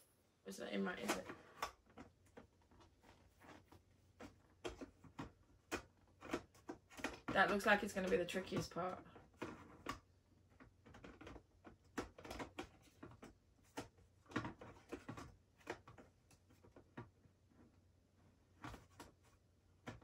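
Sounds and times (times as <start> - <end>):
plastic parts clicking and tapping: 1.0 - 17.7.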